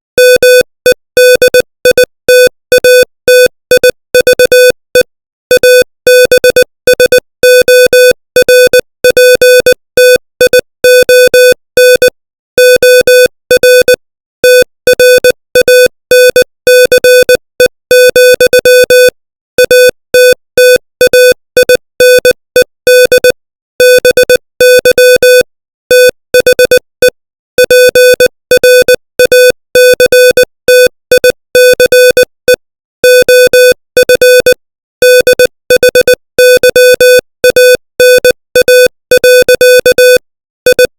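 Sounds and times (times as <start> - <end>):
morse code beeps: 0.2 - 40.9.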